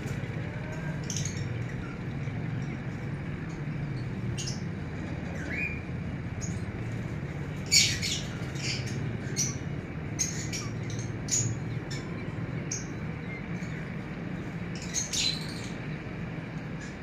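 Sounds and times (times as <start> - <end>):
high bird calls and chirps: 0.0 - 17.0
steady low hum: 0.0 - 17.0.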